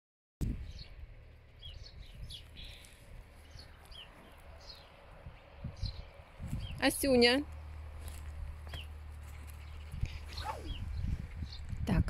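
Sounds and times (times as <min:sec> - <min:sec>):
steady low rumble: 0:00.4 - 0:12.0
small birds chirping: 0:00.5 - 0:12.0.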